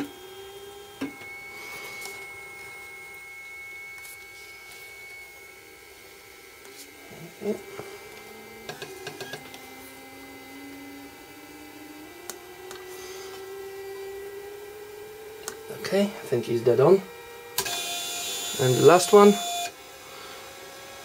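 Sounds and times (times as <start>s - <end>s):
cutting plotter humming: 0.0s - 19.8s
faint rising whine: 0.0s - 21.0s.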